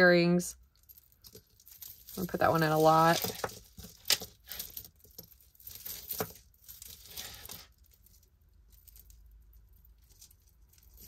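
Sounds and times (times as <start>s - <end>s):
metal chains rustling and clinking: 0.5s - 11.0s.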